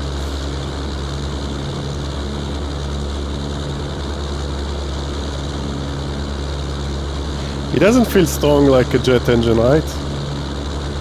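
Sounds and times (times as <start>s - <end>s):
propeller aircraft engines droning: 0.0s - 11.0s.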